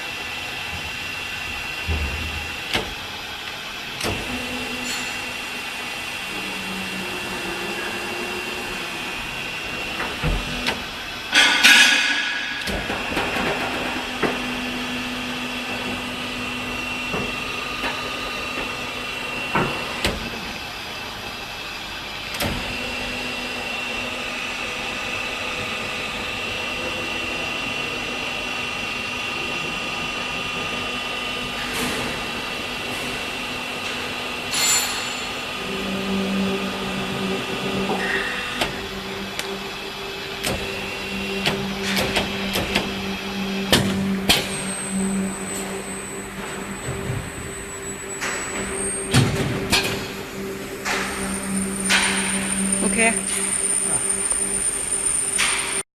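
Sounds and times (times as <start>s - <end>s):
deeper machine hum: 0.0s - 55.8s
machine hum and whine: 0.0s - 55.9s.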